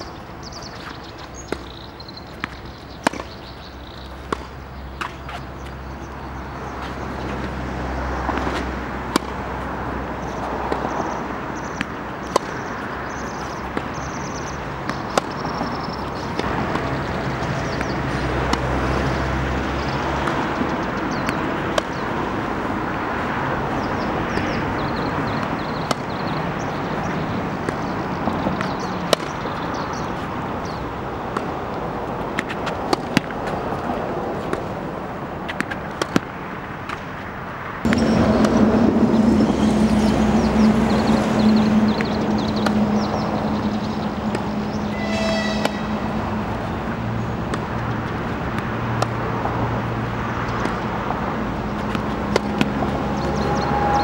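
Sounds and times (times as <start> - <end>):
traffic hum: 0.0 - 54.0
tennis ball struck by racket: 0.5 - 7.6, 8.2 - 23.0, 23.6 - 34.8, 35.4 - 37.1, 41.9 - 44.9, 45.6 - 53.8
vehicle engine drone: 1.2 - 35.5, 37.6 - 54.0.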